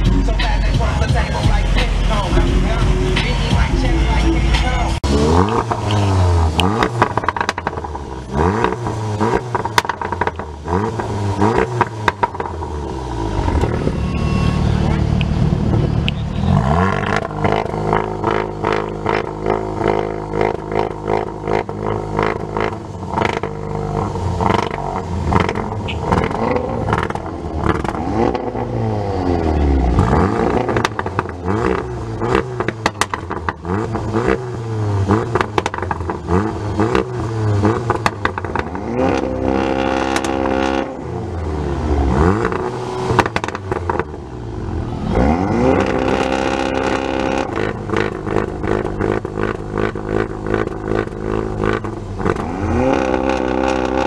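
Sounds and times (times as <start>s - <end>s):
car engines revving hard: 0.0s - 54.0s
exhaust pops and crackles: 5.1s - 12.8s, 14.8s - 28.7s, 29.9s - 40.9s, 42.1s - 44.3s, 45.2s - 54.0s.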